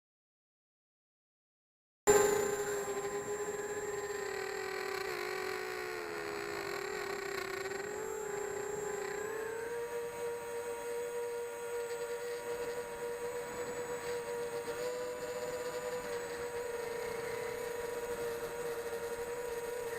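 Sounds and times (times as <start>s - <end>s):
quadcopter motors whining: 2.1s - 19.9s.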